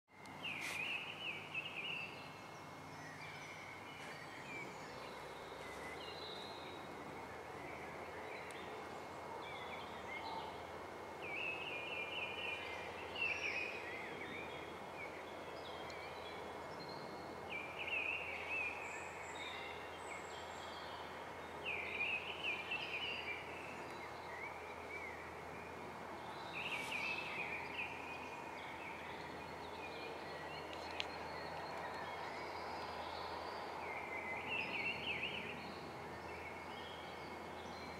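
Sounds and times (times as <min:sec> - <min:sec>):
songbirds chirping: 0:00.1 - 0:37.9
steady background hiss: 0:00.2 - 0:37.9.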